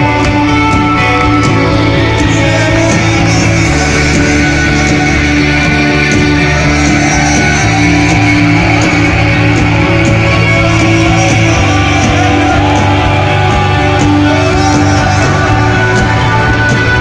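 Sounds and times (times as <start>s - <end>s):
drums steady beat: 0.0s - 17.0s
guitars: 0.0s - 17.0s
live rock band playing: 0.0s - 17.0s.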